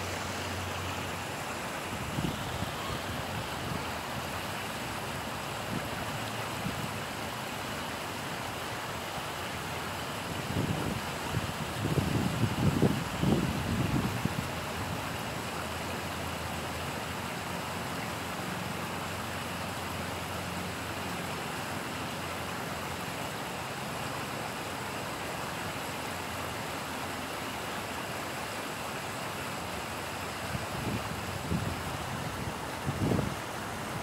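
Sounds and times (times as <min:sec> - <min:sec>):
water rushing over weir: 0:00.0 - 0:34.0.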